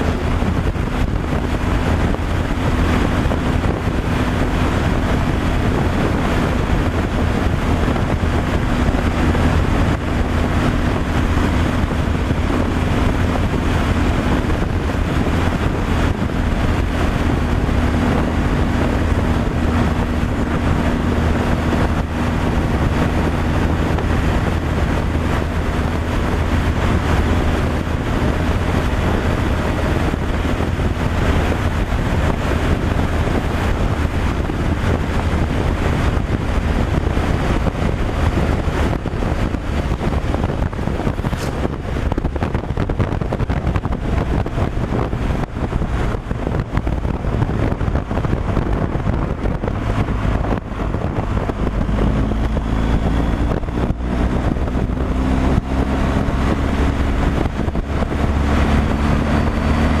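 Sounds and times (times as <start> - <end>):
road and wind noise: 0.0 - 60.0
truck engine drone: 0.0 - 60.0.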